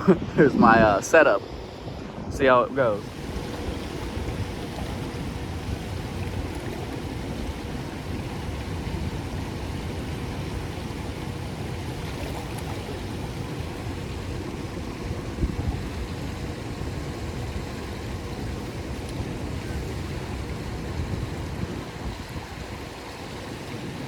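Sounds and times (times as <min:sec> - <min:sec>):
faint steady hum: 0:00.0 - 0:24.0
river current rushing: 0:00.0 - 0:24.0.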